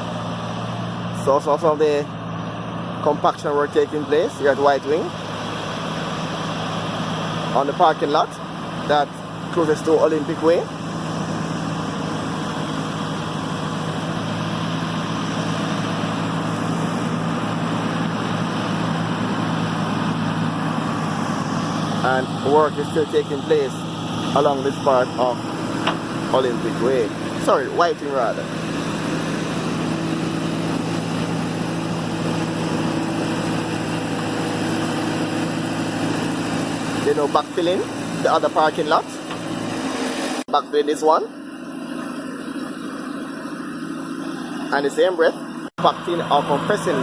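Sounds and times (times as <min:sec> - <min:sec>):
road roller engine humming: 0:00.0 - 0:47.0.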